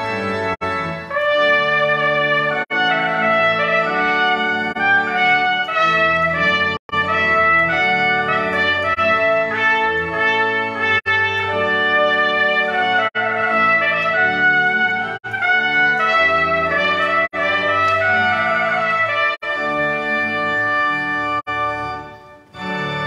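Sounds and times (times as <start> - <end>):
organ accompaniment: 0.0 - 23.0
trumpet melody: 0.0 - 23.0.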